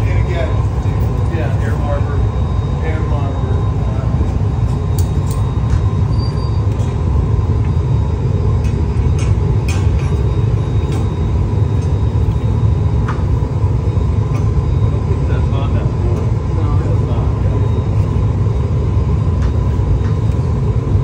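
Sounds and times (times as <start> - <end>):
furnace blowers rumbling: 0.0 - 21.0.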